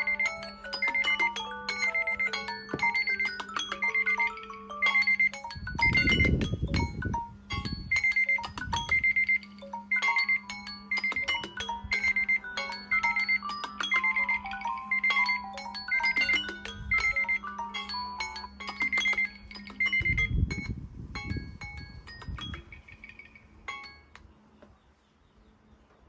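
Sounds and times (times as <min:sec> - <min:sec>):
marimba-like alarm melody: 0:00.0 - 0:24.2
phone alarm beeping: 0:00.0 - 0:24.2.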